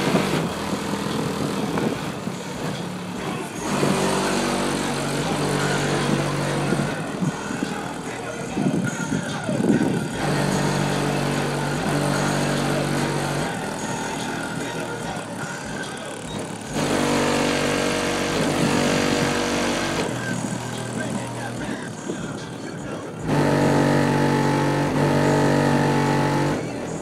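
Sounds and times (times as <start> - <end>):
loud bass music from car: 0.0 - 27.0.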